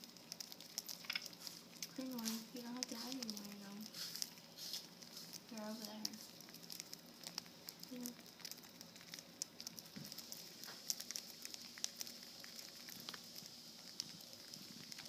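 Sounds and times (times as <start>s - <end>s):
birds pecking and cracking seed: 0.0s - 15.0s.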